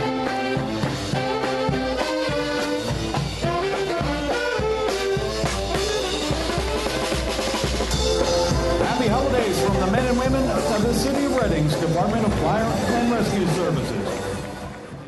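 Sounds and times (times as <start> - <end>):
band music with steady beat: 0.0 - 15.0.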